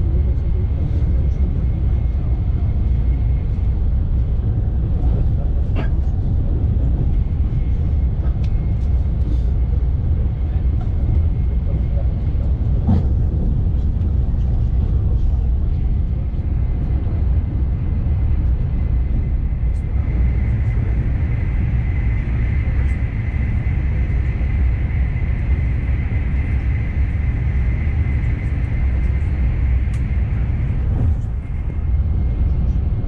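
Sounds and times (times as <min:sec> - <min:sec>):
train rumble inside coach: 0:00.0 - 0:33.0.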